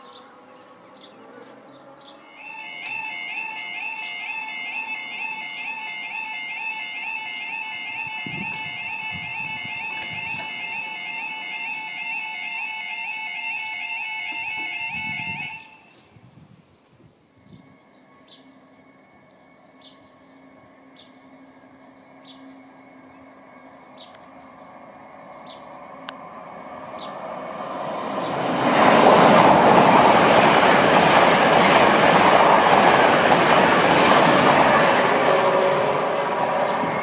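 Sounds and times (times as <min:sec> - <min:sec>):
high-speed train passing: 0:00.0 - 0:37.0.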